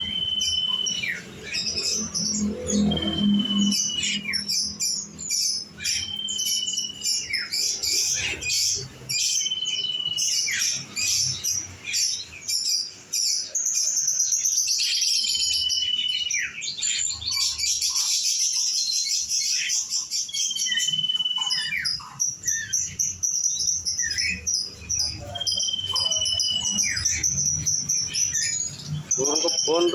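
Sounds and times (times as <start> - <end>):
songbirds chirping and twittering: 0.0 - 29.9.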